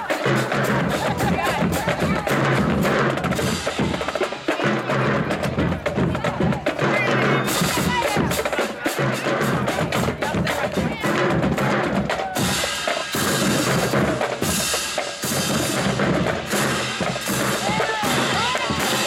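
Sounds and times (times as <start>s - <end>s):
snare and bass drums: 0.0s - 19.0s.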